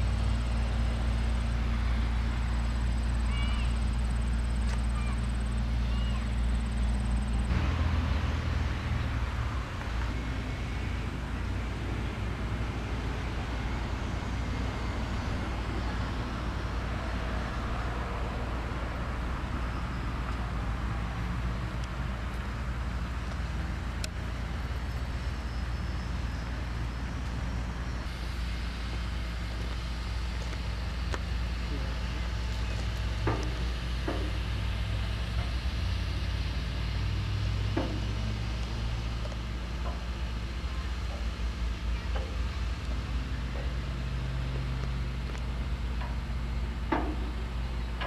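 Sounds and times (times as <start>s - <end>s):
outdoor background rumble and hiss: 0.0s - 48.0s.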